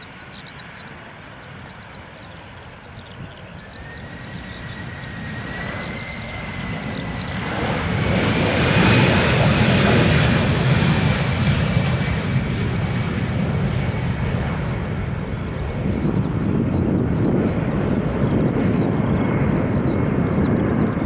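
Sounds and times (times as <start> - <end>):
high engine whine: 0.0 - 21.0
jet engines at takeoff thrust: 0.0 - 21.0.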